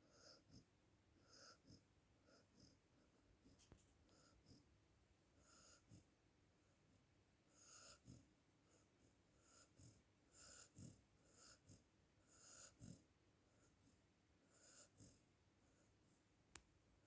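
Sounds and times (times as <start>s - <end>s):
dog snoring faintly: 0.0s - 4.7s, 5.4s - 6.2s, 7.4s - 16.2s.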